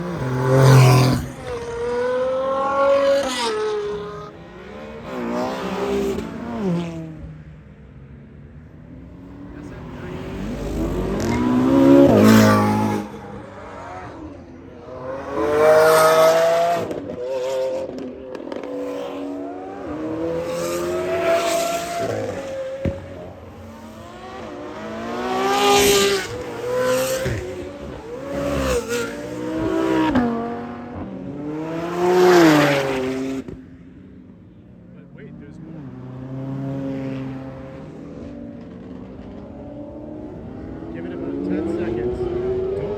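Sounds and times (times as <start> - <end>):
sports cars accelerating past: 0.0 - 42.9.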